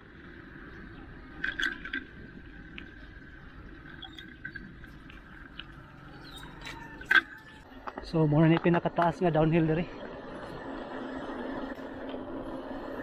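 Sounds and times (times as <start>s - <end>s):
bike tyres rolling on concrete: 0.0s - 13.0s.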